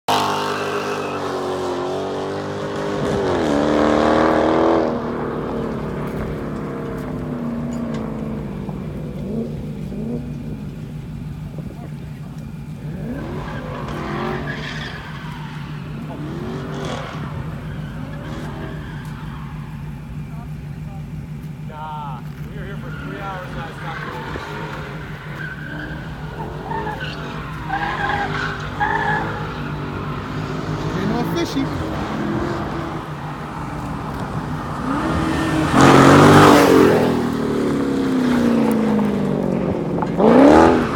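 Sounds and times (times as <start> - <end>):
car engine revving: 0.0 - 40.9
tyres screeching: 0.1 - 40.9.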